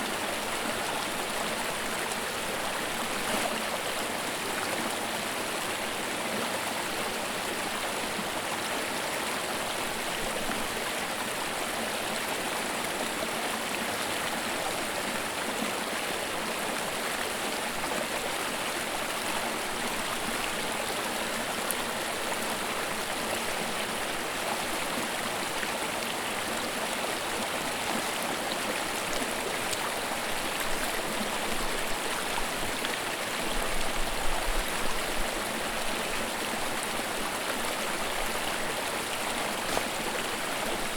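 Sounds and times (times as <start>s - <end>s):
creek babbling over rocks: 0.0s - 40.9s.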